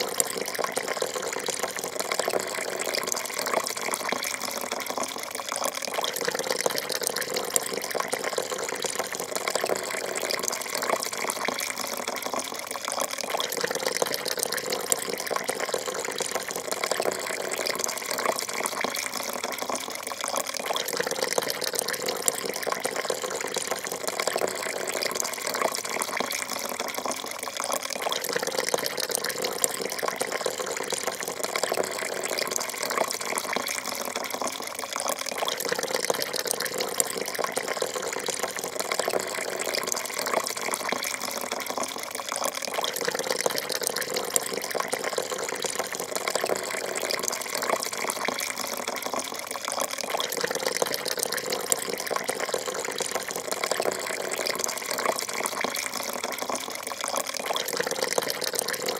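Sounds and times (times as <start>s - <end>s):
coffee pouring into a cup: 0.0s - 58.9s.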